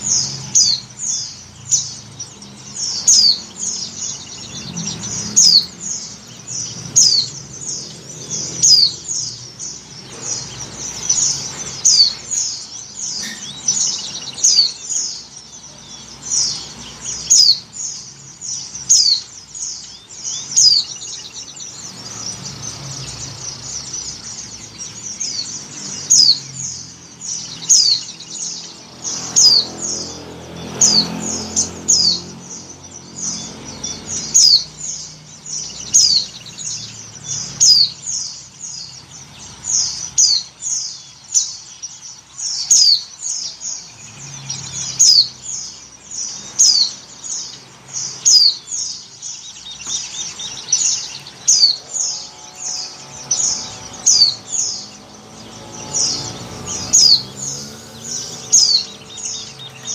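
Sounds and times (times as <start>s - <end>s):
white-eye bird chirping: 0.0s - 59.9s.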